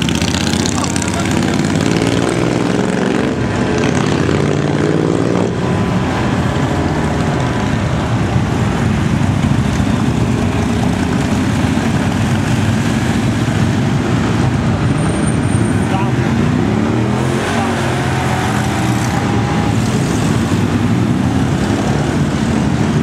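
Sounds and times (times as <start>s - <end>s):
motorcycles revving past: 0.0s - 8.0s, 8.7s - 23.0s.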